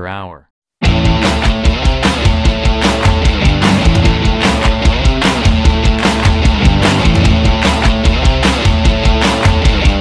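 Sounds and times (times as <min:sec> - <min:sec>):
rock music with distorted guitars: 0:00.8 - 0:10.0
driving drum beat: 0:00.9 - 0:09.9.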